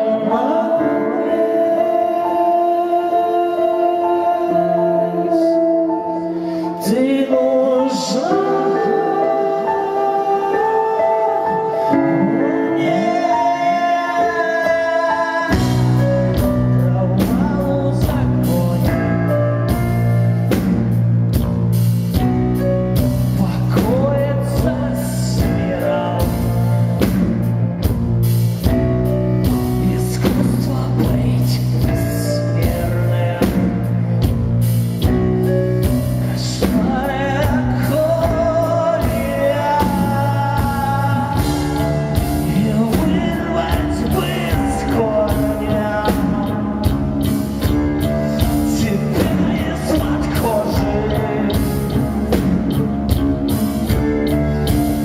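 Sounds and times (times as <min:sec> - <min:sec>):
person singing: 0:00.0 - 0:21.0, 0:21.7 - 0:55.0
drums: 0:00.0 - 0:55.0
live rock band playing: 0:00.0 - 0:55.0.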